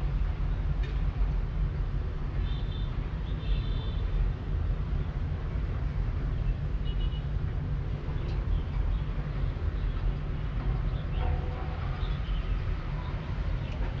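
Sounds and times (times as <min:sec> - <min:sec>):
distant city traffic rumble: 0:00.0 - 0:14.0.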